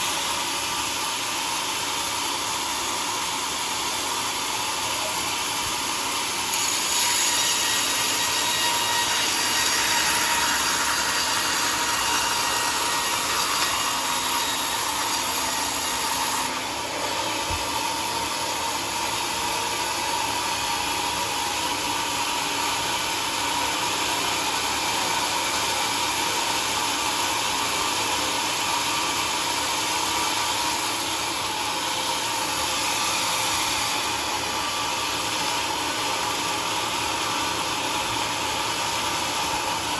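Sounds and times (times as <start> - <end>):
sawmill cutting through log: 0.0 - 39.9.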